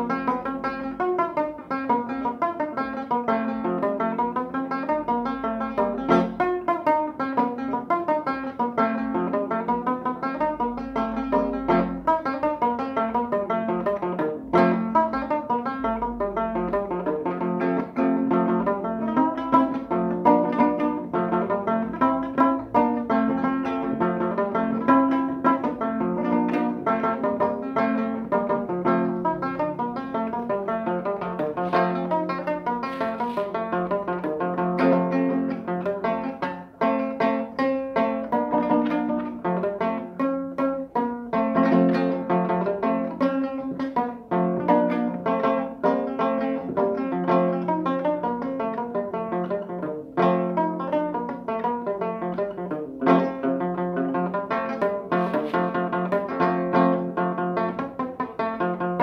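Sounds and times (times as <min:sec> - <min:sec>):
plucked guitar notes: 0:00.0 - 0:59.0.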